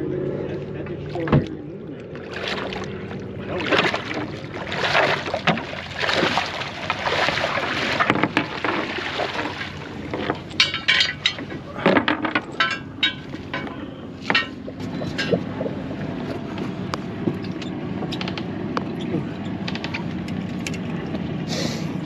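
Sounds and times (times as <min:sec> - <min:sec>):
boat motor idling: 0:00.0 - 0:22.0
water splashing against boat: 0:00.0 - 0:22.0.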